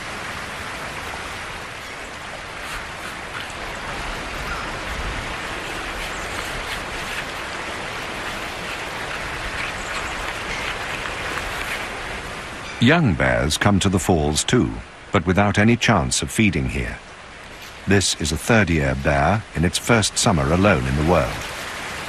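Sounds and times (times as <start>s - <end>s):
river water pouring over rocks: 0.0s - 22.0s.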